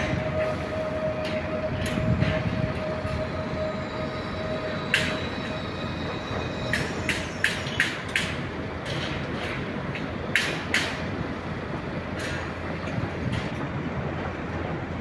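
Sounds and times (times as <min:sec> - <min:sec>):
wheels clacking over rail joints: 0:00.0 - 0:13.8
train rumble: 0:00.0 - 0:15.0.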